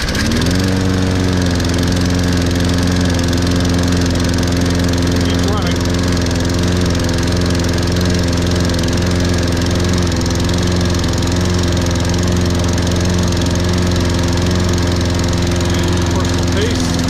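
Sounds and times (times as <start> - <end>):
lawn mower engine idling: 0.0 - 17.0.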